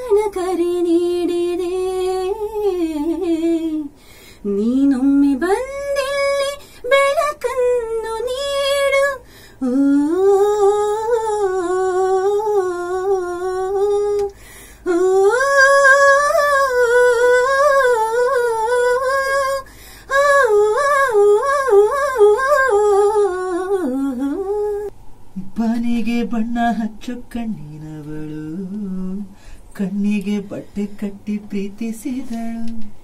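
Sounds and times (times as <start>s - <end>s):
woman singing wordless notes: 0.0s - 33.0s.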